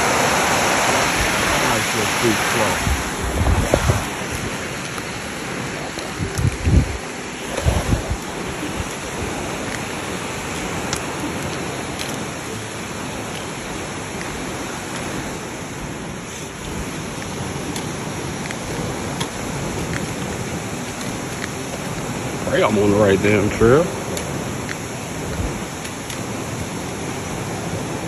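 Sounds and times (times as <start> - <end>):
waterfall rushing: 0.0 - 28.0
wind rumbling on microphone: 0.0 - 28.0.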